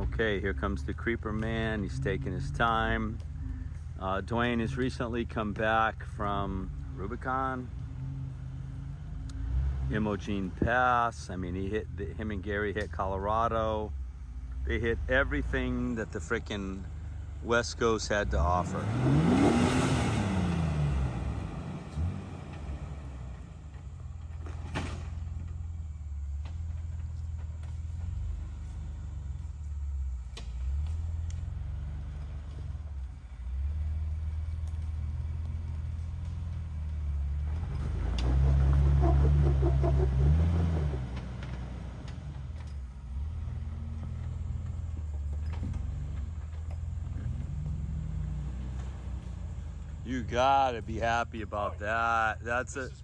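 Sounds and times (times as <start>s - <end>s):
engine running at low revs: 0.0s - 53.0s.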